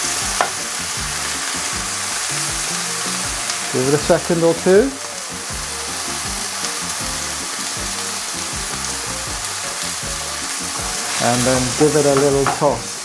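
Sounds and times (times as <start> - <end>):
meat and vegetables sizzling in pan: 0.0 - 13.0.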